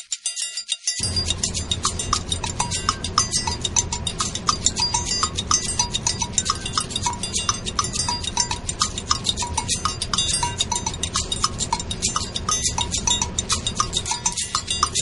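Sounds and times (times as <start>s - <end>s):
fast clattering percussion music: 0.0s - 15.0s
low steady rumble: 1.0s - 15.0s.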